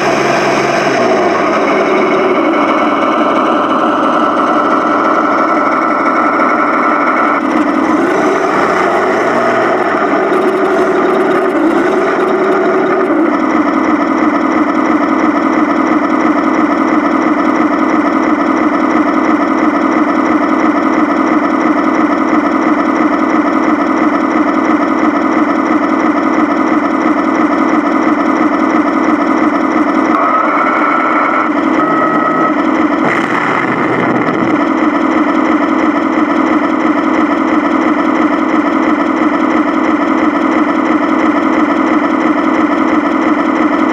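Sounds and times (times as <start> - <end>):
simulated tank engine from speaker: 0.0 - 43.9.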